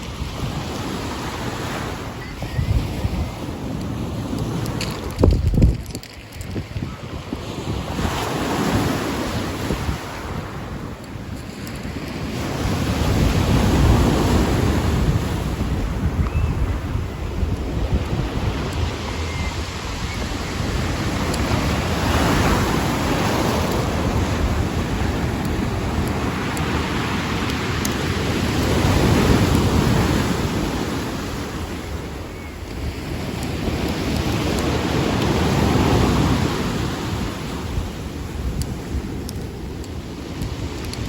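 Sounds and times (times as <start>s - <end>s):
sea waves washing in: 0.0s - 41.0s.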